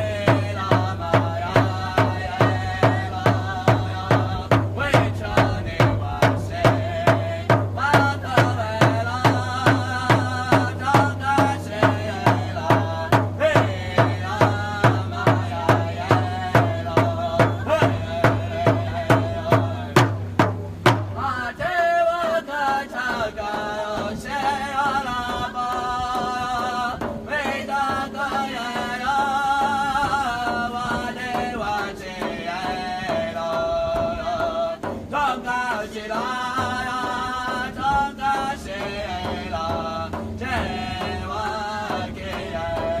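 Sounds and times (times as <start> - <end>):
men singing a chant: 0.0 - 43.0
steady drum beat: 0.0 - 43.0.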